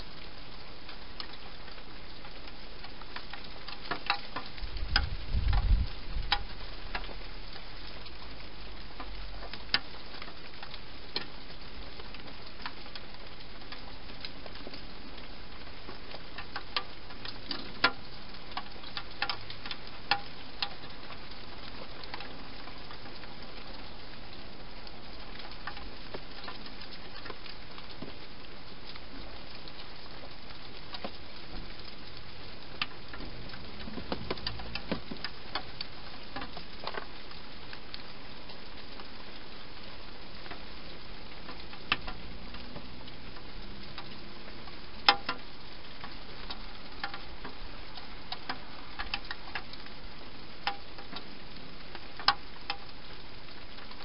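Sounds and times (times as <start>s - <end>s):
clicks and crackles against plastic: 0.9s - 8.2s, 9.0s - 23.9s, 24.8s - 39.1s, 40.4s - 49.9s, 50.6s - 51.3s, 51.9s - 53.0s.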